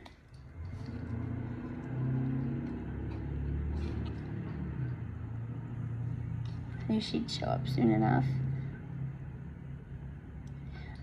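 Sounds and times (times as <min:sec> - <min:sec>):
motor rumbling with hum: 0:00.0 - 0:11.0.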